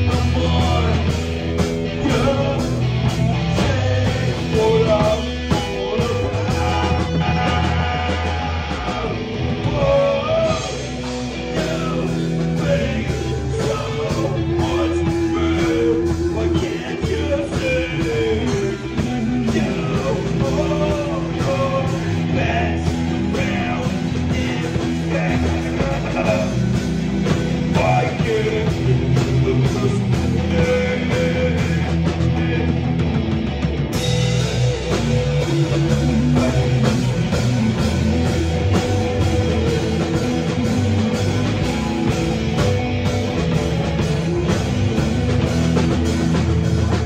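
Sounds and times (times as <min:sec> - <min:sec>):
bass guitar: 0:00.0 - 0:47.0
drums: 0:00.0 - 0:47.0
electric guitar: 0:00.0 - 0:47.0.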